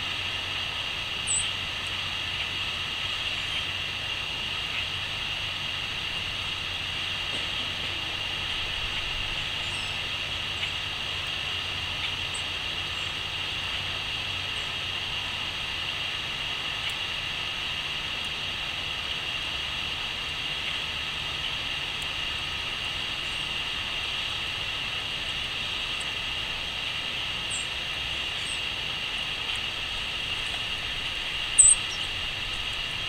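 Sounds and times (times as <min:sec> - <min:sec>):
low hum and hiss: 0:00.0 - 0:33.0
small birds chirping: 0:01.1 - 0:18.4, 0:20.4 - 0:33.0.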